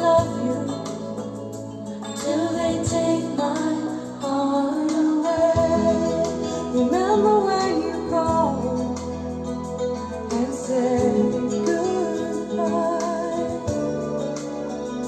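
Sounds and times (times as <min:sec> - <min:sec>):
slow instrumental song over speakers: 0:00.0 - 0:15.0.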